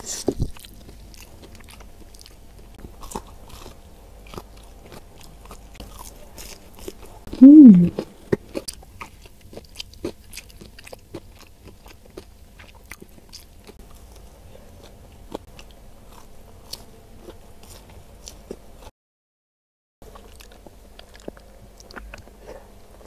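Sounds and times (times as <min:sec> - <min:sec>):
chewing with mouth clicks: 0:00.3 - 0:07.3, 0:08.3 - 0:18.6, 0:20.1 - 0:23.0.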